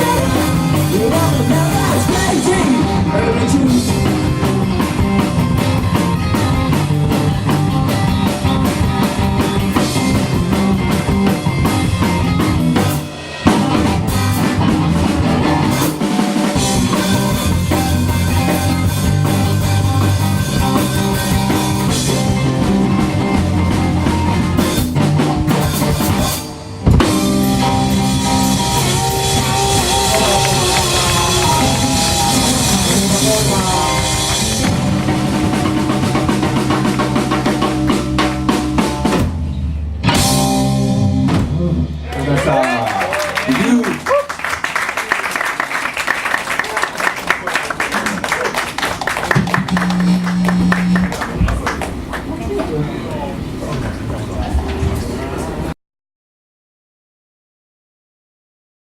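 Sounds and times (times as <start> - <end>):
live rock band playing: 0.0 - 52.6.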